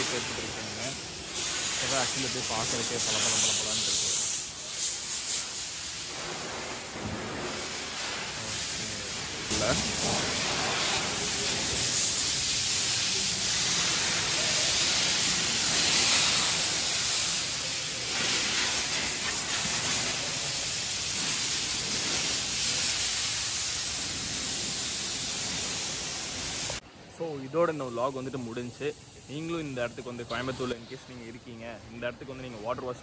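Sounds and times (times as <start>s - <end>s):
car wash jet hissing: 0.0s - 26.8s.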